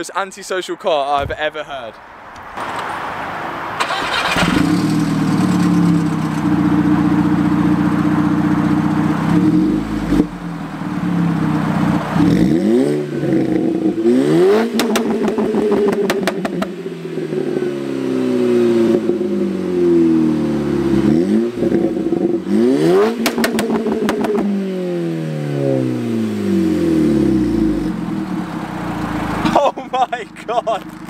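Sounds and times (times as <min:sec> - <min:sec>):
car engine starting and idling: 0:03.6 - 0:31.0
engine revving: 0:03.8 - 0:29.6
exhaust crackles: 0:03.8 - 0:31.0.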